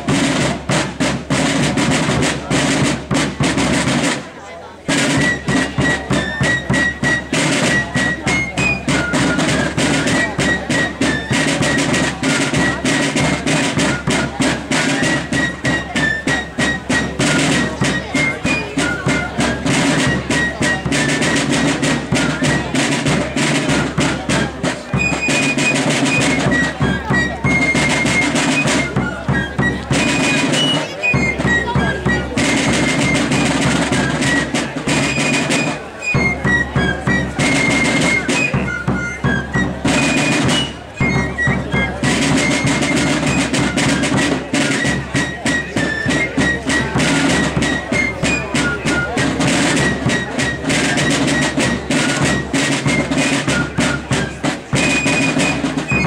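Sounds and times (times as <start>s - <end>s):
snare drum rolls: 0.0s - 56.0s
shrill fifes playing melody: 4.9s - 56.0s.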